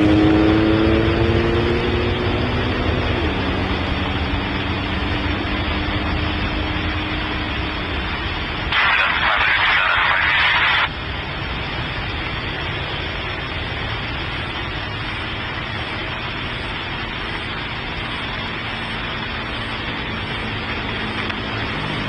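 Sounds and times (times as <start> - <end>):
distant jet engines roaring: 0.0 - 22.0.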